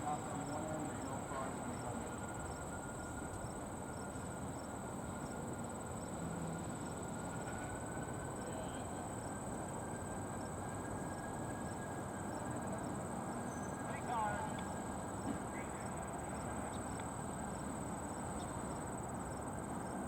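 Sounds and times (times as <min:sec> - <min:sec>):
train rolling slowly rumble: 0:00.0 - 0:20.0.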